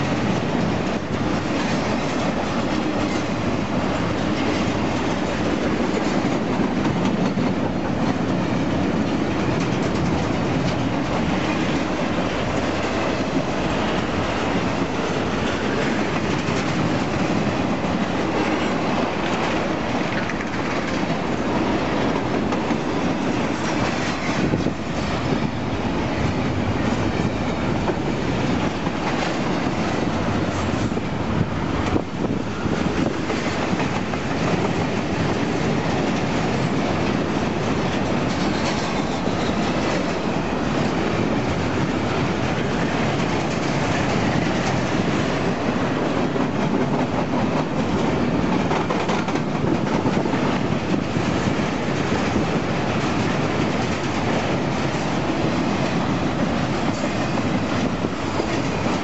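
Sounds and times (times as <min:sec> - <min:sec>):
clickety-clack over rail joints: 0:00.0 - 0:59.0
steel wheels rolling on rail: 0:00.0 - 0:59.0.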